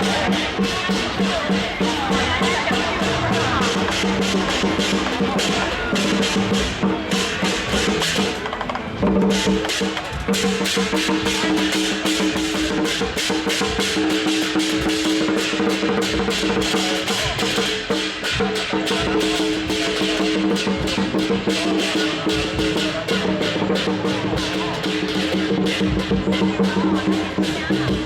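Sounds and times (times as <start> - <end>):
fast drum and percussion strikes: 0.0 - 28.0.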